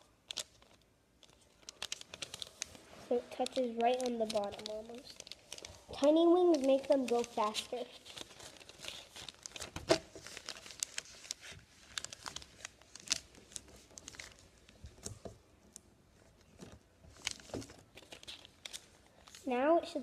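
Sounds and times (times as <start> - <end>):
paper crinkling and rustling: 0.2 - 20.0.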